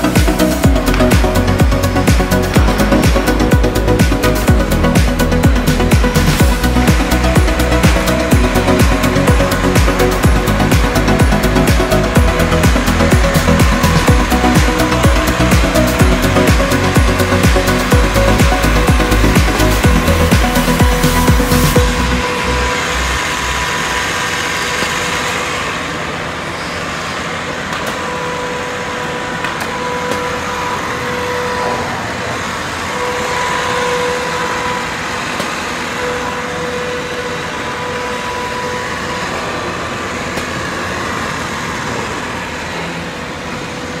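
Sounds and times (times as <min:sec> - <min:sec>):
router machining wood: 0:00.0 - 0:44.0
thin whine: 0:00.0 - 0:44.0.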